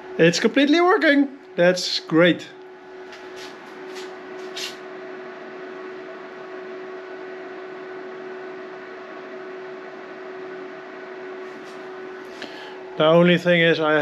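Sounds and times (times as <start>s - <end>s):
charger fan hum: 0.0s - 14.0s.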